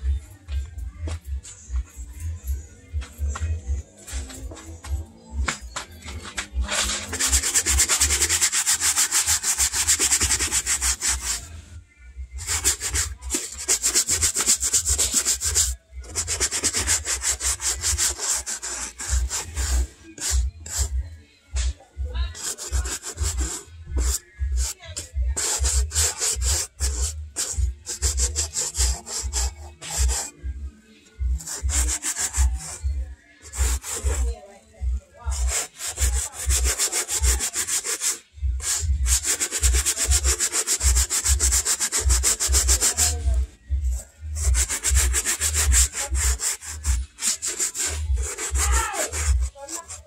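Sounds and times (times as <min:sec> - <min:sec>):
bristle brush scrubbing suede: 0:05.5 - 0:11.5, 0:12.4 - 0:21.0, 0:22.3 - 0:30.4, 0:31.1 - 0:34.4, 0:35.2 - 0:50.0.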